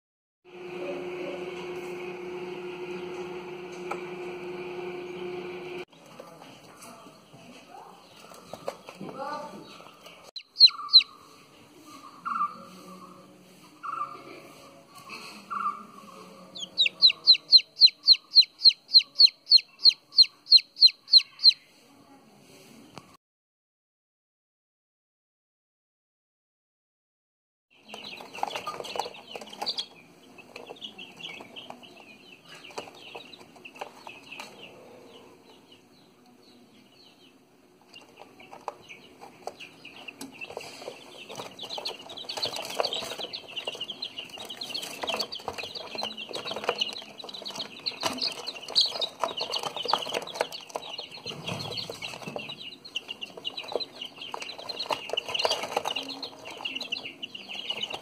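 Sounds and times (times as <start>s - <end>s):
chicks peeping: 0.6s - 22.0s, 27.7s - 58.0s.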